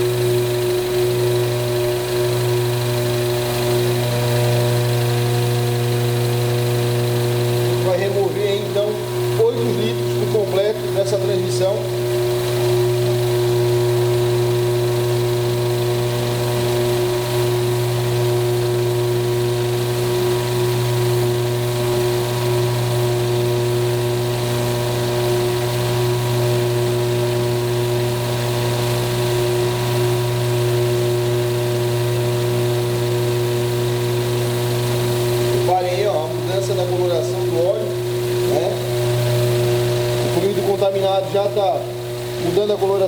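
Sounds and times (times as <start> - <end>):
fluid exchange machine pumping: 0.0 - 43.0.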